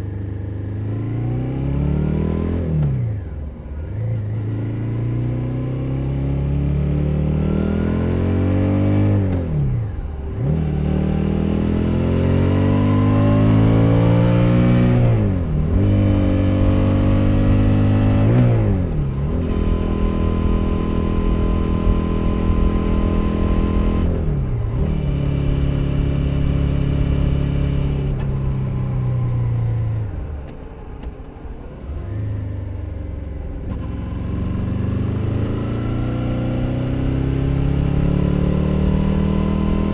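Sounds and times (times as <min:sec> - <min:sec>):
motorcycle engine shifting gears: 0:07.2 - 0:39.9.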